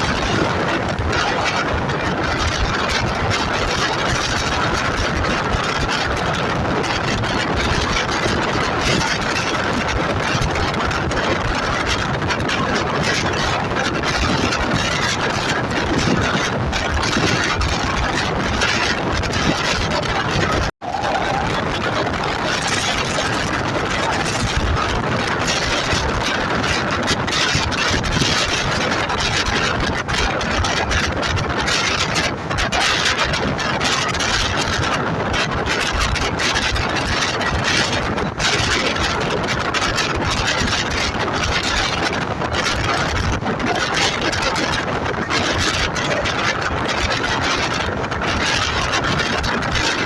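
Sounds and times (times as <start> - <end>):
train running rumble: 0.0 - 50.0.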